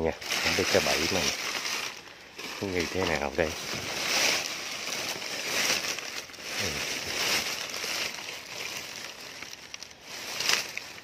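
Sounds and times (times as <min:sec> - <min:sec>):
dry leaves rustling and crunching: 0:00.0 - 0:11.0.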